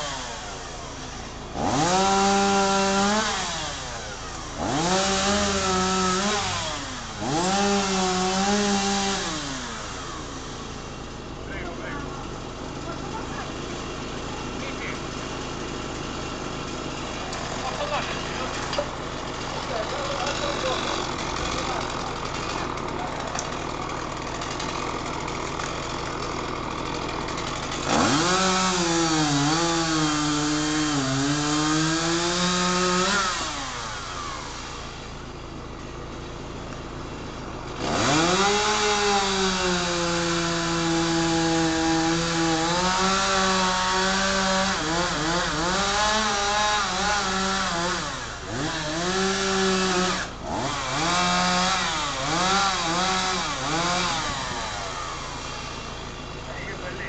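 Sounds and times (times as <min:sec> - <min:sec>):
chainsaw idling and cutting wood: 0:00.0 - 0:57.0.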